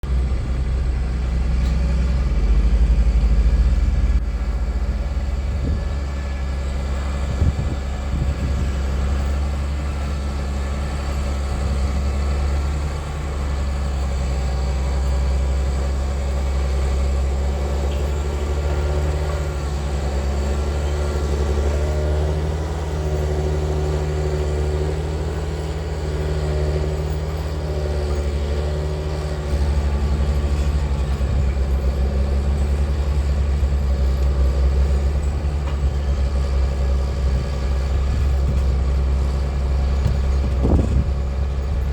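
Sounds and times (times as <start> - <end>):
farm machine engine rumbling: 0.0 - 41.9.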